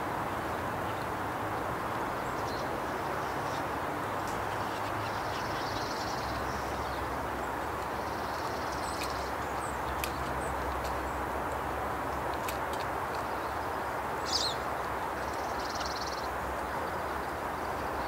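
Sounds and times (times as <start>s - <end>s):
outdoor background rush: 0.0s - 18.0s
songbird chirps and trills: 0.3s - 18.0s.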